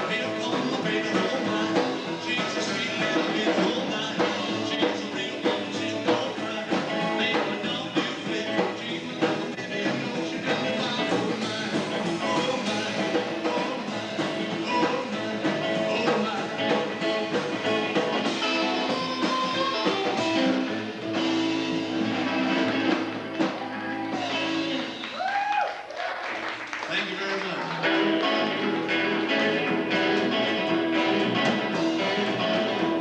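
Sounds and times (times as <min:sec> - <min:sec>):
rock band playing: 0:00.0 - 0:25.5, 0:26.4 - 0:33.0
electric guitar: 0:00.0 - 0:33.0.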